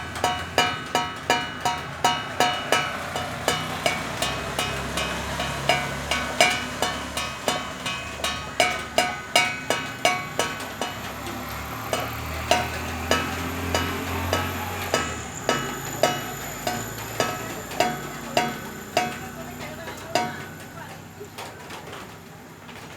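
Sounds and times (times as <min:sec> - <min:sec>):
metal pan clanging: 0:00.0 - 0:21.1.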